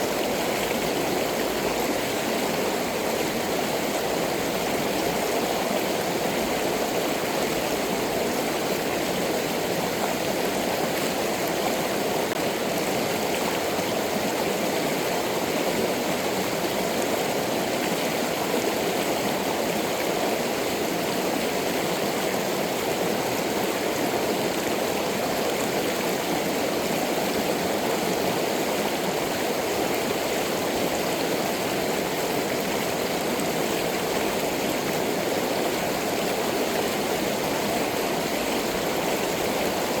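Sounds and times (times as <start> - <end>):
stream water rushing over rock: 0.0 - 40.0.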